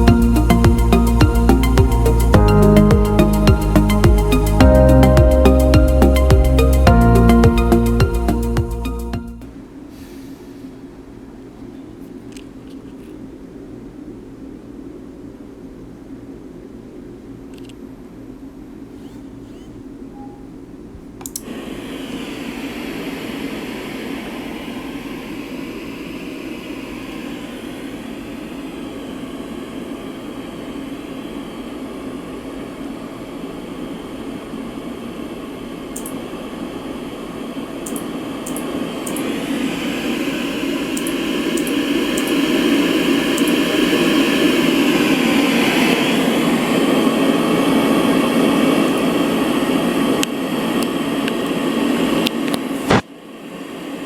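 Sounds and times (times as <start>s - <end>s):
white noise machine hiss: 0.0s - 54.0s.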